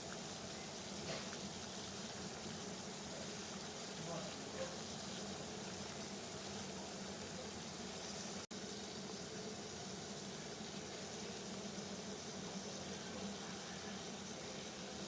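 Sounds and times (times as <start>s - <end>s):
water boiling: 0.0s - 15.0s.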